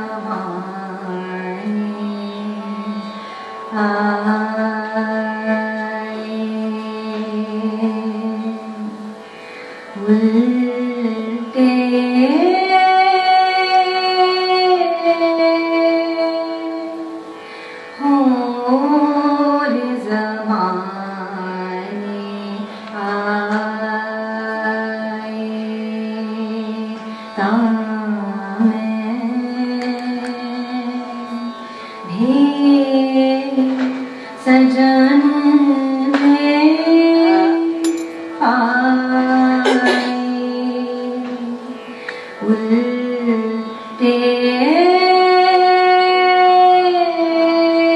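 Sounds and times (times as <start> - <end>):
faint steady drone: 0.0 - 47.9.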